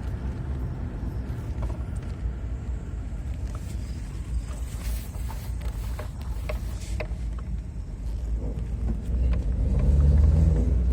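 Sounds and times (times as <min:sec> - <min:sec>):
vehicle rumble: 0:00.0 - 0:10.9.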